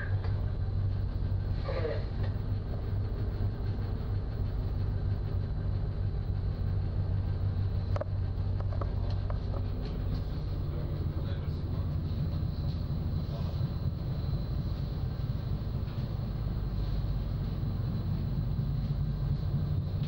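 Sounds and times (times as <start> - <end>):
ship engines droning: 0.0 - 20.0.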